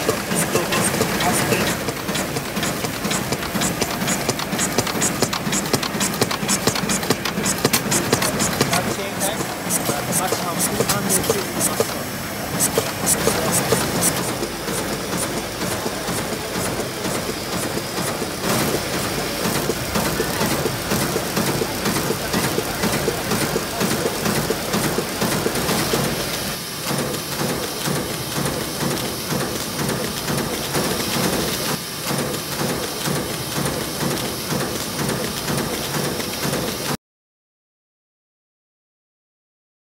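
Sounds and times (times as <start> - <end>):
wrapping machine clattering: 0.0 - 36.8.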